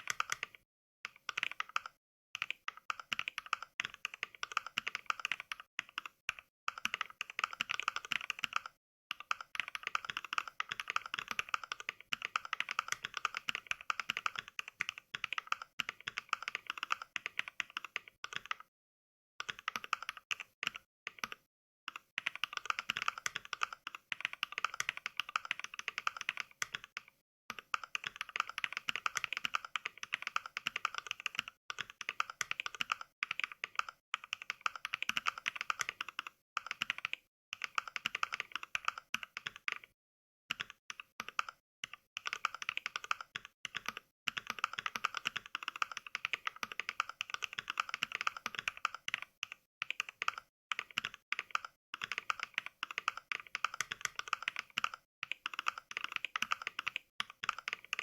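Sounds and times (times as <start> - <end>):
mechanical keyboard typing clicks: 0.0 - 18.7, 19.4 - 39.9, 40.5 - 58.0.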